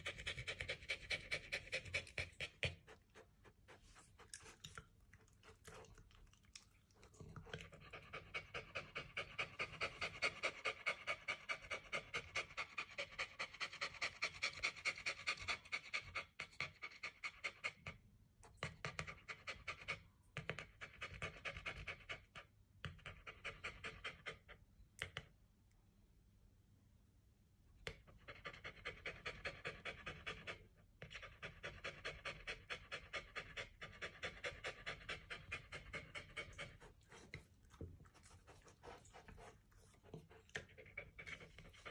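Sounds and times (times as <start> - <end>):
dog panting: 0.0 - 18.0, 18.6 - 24.6, 27.8 - 41.9.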